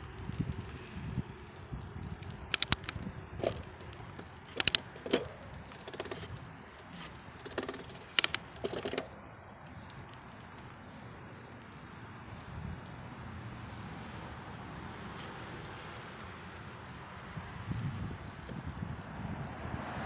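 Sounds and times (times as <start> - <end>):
bicycle rattling: 0.0 - 20.0
tyre and wind noise: 0.0 - 20.0.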